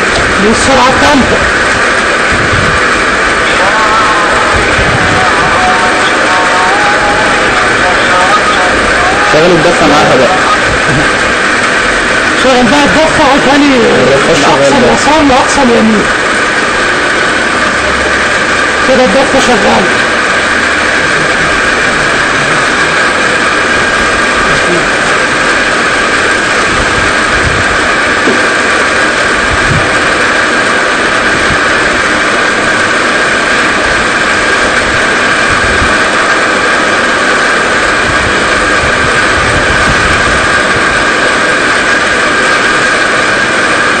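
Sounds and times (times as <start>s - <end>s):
model boat motor whine: 0.0s - 44.0s.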